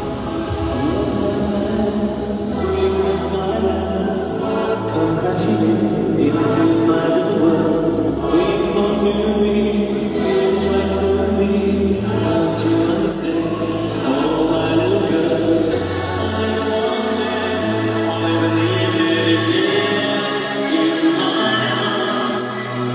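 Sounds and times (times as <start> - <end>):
music with singing over loudspeakers: 0.0 - 22.9.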